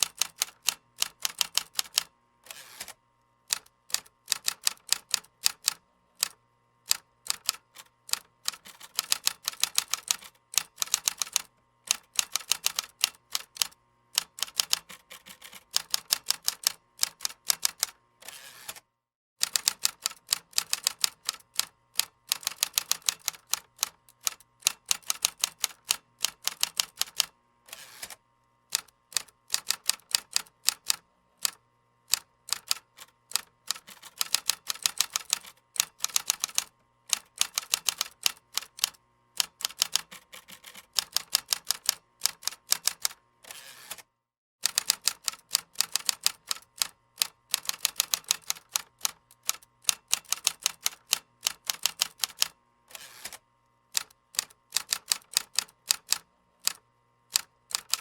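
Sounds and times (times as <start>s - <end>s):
typing on computer keyboard: 0.0s - 2.1s, 2.7s - 18.8s, 19.4s - 27.3s, 28.0s - 43.2s, 43.9s - 58.0s.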